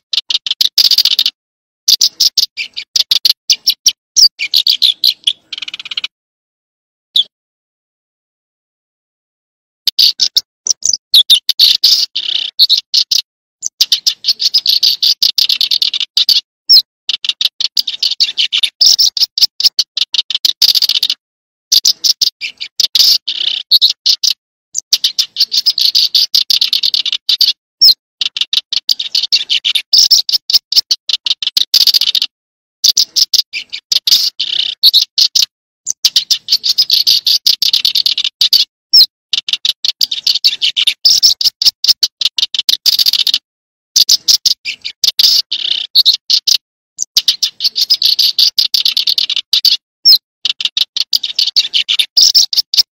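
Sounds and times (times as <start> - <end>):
songbird chirping: 0.0 - 6.1, 9.9 - 43.4, 44.0 - 52.9.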